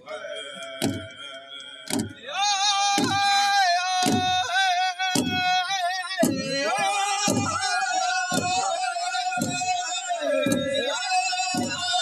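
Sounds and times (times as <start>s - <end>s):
men singing in high voices: 0.0s - 12.0s.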